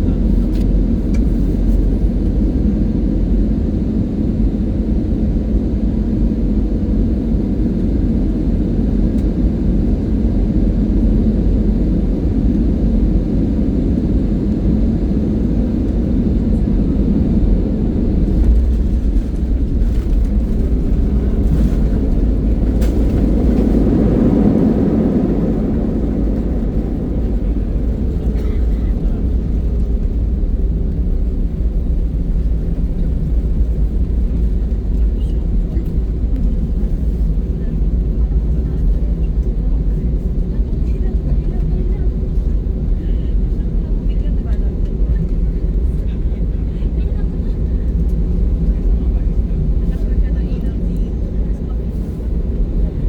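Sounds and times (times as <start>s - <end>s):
airliner engine rumble in cabin: 0.0s - 53.0s.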